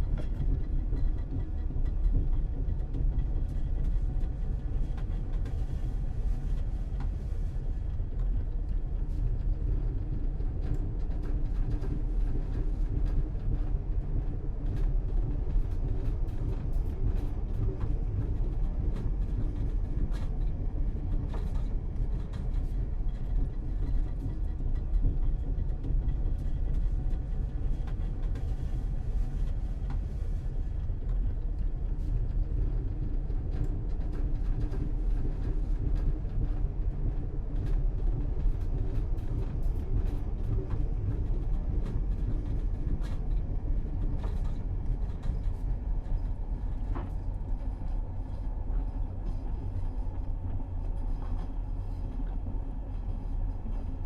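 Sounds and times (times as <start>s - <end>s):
train rumbling from inside carriage: 0.0s - 54.0s.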